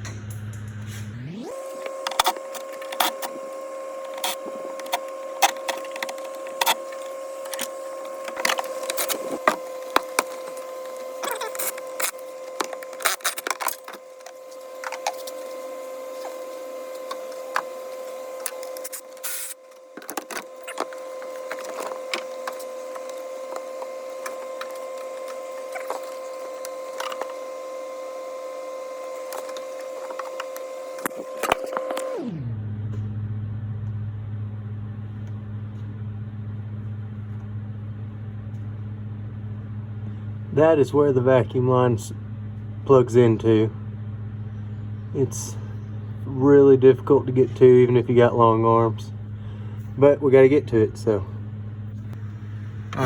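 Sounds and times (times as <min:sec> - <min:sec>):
steady high-pitched hum: 0:00.0 - 0:53.0.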